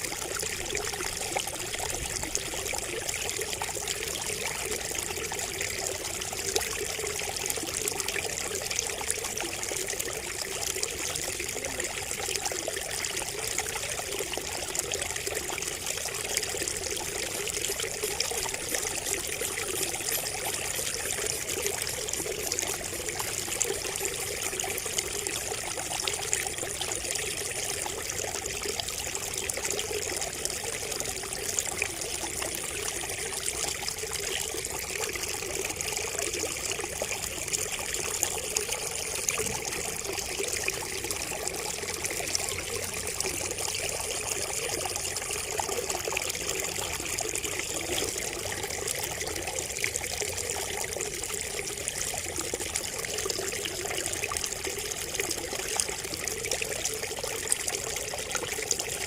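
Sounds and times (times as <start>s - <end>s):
water trickling from a spout: 0.0s - 59.0s.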